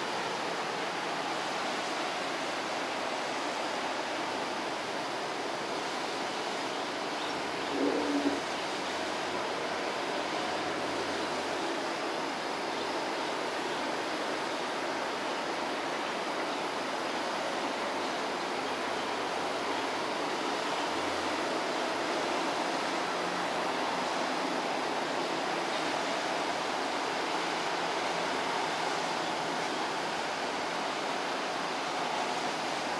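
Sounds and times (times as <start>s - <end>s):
outdoor background hiss: 0.0s - 32.9s.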